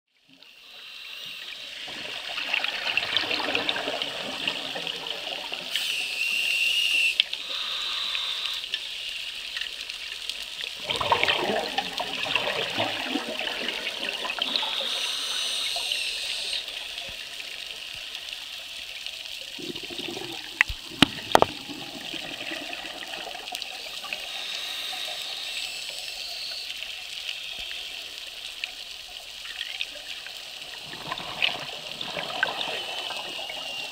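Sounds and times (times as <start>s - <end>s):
underwater bubbling: 1.1s - 33.9s.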